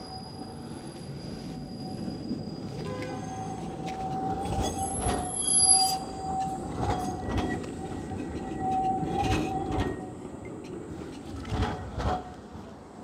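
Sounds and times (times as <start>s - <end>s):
low rumble of tram: 0.0s - 13.0s
tram wheels squealing on rails: 0.0s - 13.0s.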